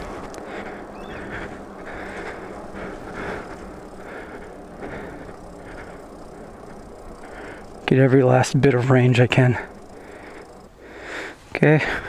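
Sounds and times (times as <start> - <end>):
faint low hum: 0.0 - 12.0
tyres rolling on asphalt: 0.0 - 12.0.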